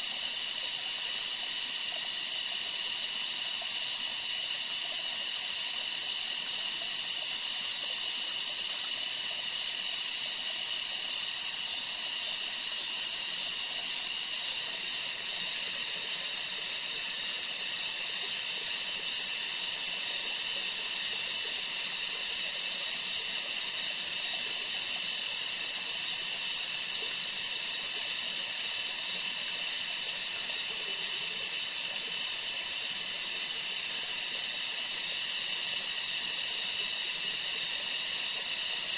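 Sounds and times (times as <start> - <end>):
insects chorus shrill hiss: 0.0 - 38.9.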